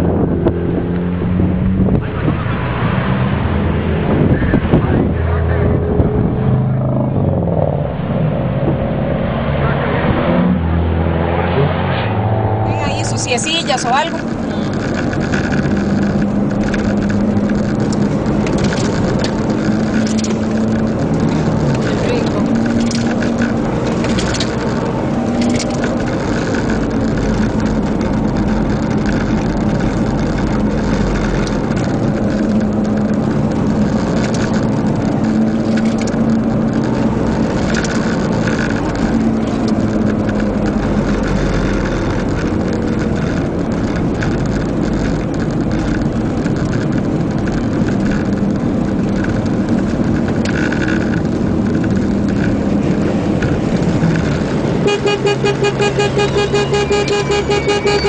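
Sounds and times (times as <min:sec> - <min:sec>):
car engine running hard: 0:00.0 - 0:58.0
road and wind noise: 0:00.0 - 0:58.0.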